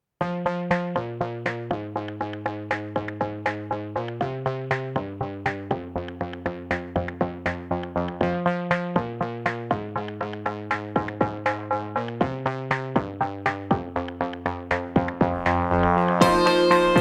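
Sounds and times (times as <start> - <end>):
electronic music with synthesizer: 0.2 - 17.0.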